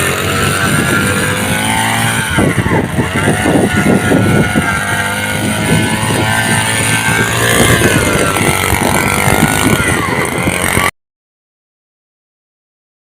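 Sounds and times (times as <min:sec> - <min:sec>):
small engine running under load: 0:00.0 - 0:11.0.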